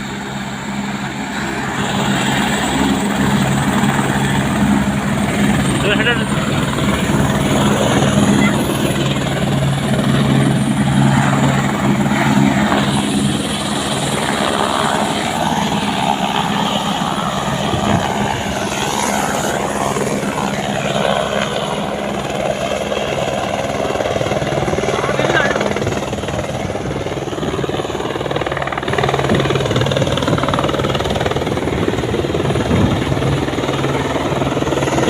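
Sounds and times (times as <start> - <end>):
helicopter flying: 0.0 - 35.0.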